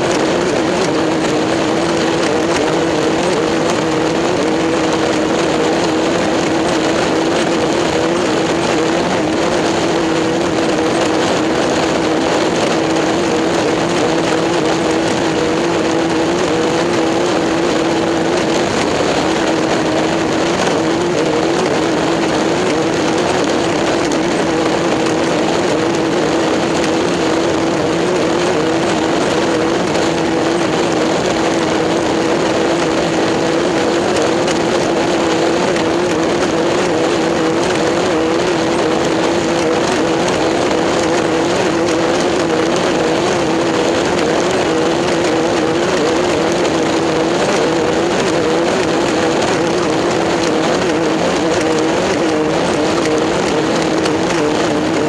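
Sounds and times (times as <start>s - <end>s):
racing engine drone: 0.0s - 55.0s.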